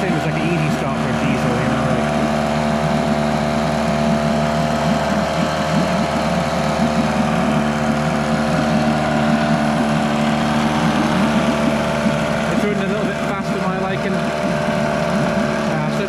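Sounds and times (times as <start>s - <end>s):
outboard motor running: 0.0s - 16.0s
water churning: 0.0s - 16.0s.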